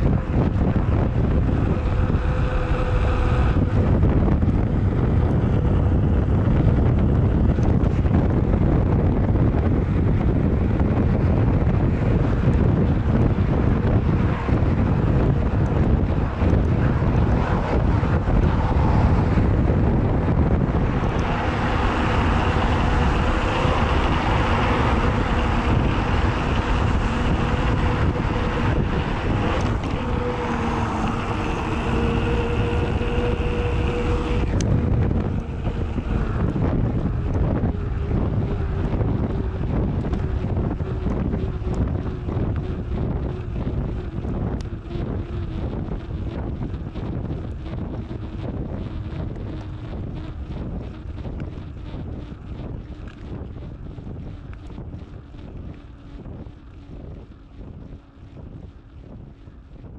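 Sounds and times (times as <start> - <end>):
droning hum: 0.0 - 59.9
low hum sinking in pitch: 0.0 - 59.9
mountain bike rolling: 0.0 - 59.9
wind buffeting microphone: 0.0 - 59.9.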